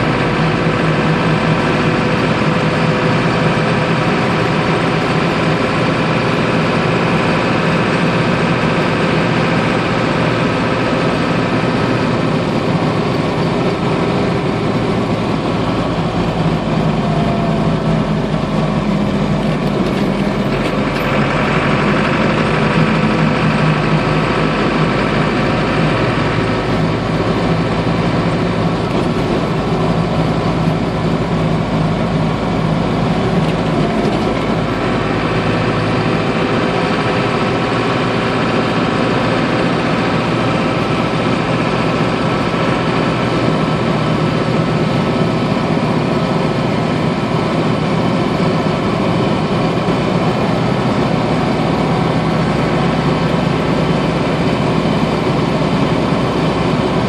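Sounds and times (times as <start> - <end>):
diesel engine drone: 0.0 - 57.0
road noise: 0.0 - 57.0.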